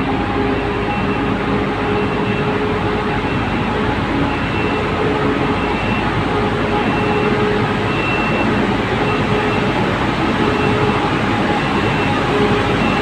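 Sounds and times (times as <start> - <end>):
truck diesel engine in tunnel: 0.0 - 13.0.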